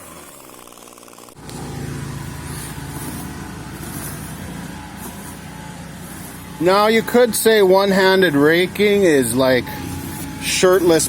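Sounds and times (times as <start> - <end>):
hissing scrapes: 0.0 - 11.0
rough outdoor rumble: 0.0 - 11.0
small engine running: 0.0 - 11.0.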